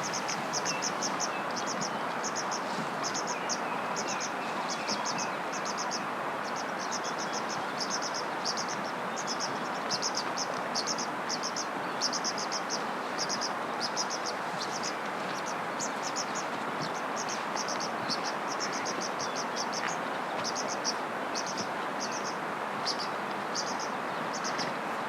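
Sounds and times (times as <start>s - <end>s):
insect chorus hiss: 0.0s - 24.6s.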